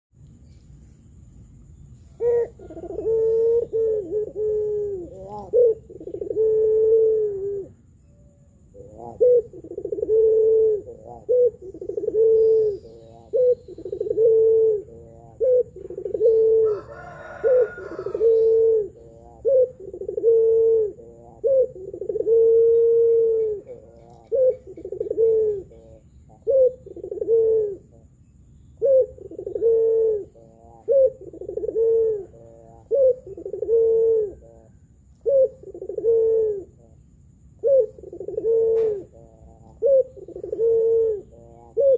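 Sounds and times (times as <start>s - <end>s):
dove cooing: 2.1s - 41.9s.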